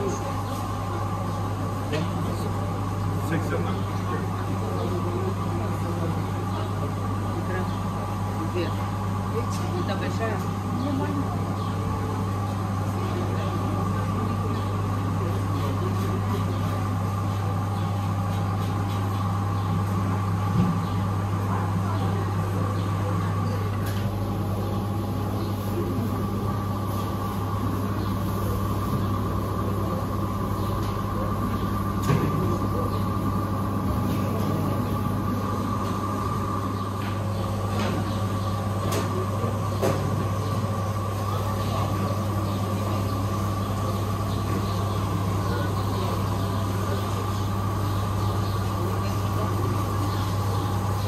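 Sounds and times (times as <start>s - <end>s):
refrigeration machinery hum: 0.0s - 51.0s.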